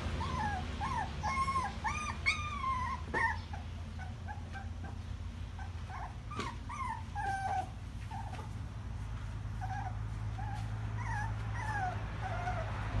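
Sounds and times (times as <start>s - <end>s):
puppies whimpering: 0.0s - 8.7s, 9.5s - 13.0s.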